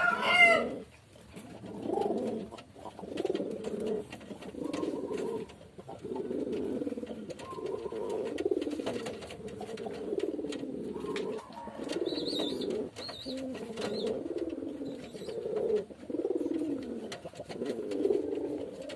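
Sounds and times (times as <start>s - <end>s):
doves cooing: 0.0s - 18.9s.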